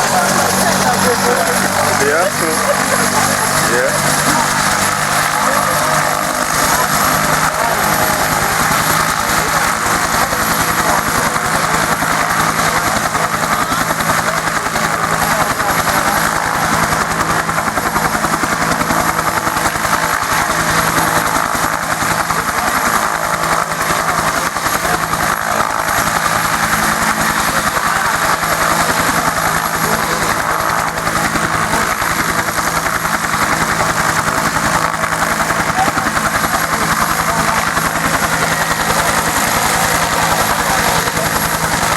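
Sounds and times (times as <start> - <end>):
helicopter rotor beat: 0.0 - 41.9
helicopter turbine engine: 0.0 - 41.9.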